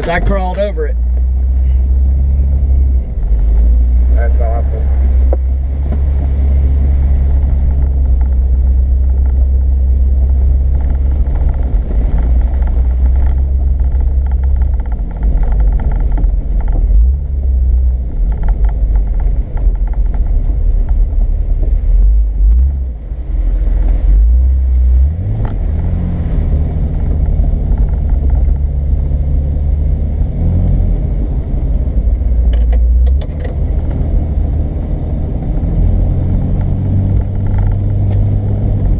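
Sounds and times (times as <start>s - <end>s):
off-road vehicle engine rumble: 0.0s - 38.9s.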